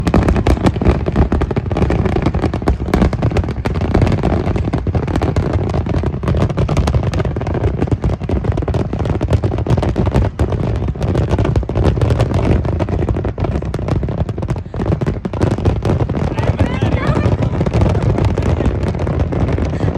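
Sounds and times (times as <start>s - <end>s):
fireworks crackling and banging: 0.0s - 19.9s.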